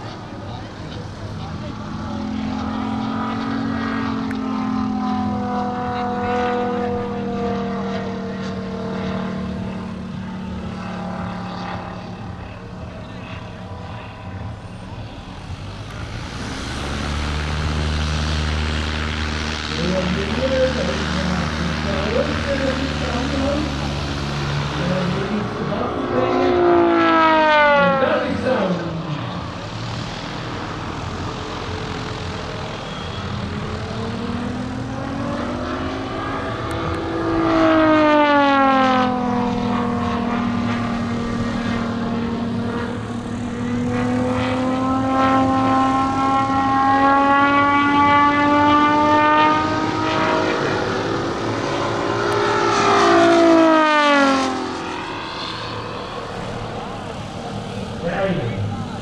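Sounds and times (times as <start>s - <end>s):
model plane engine drone: 0.0s - 59.0s.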